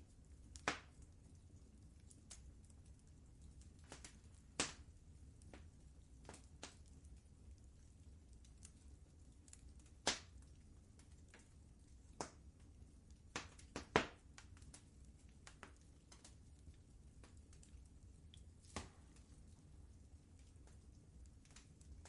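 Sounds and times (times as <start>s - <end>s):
fire crackling and popping: 0.0s - 22.0s
low steady rumble: 0.0s - 22.0s.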